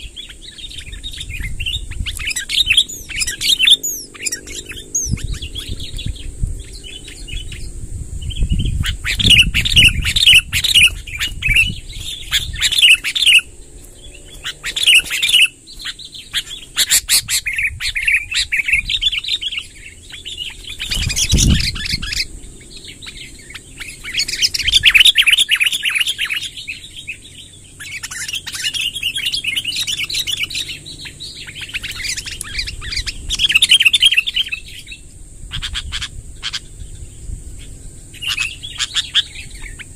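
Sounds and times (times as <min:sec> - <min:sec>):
birds chattering song: 0:00.0 - 0:39.9.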